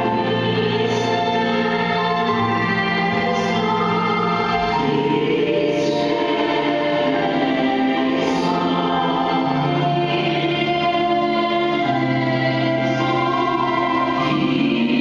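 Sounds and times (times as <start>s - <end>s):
choir singing a slow hymn: 0.0s - 15.0s.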